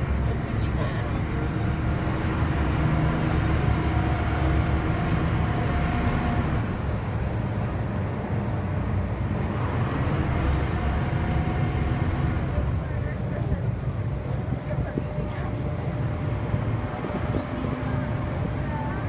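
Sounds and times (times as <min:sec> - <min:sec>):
boat engines rumbling: 0:00.0 - 0:19.0
wind buffeting microphone: 0:00.0 - 0:19.0.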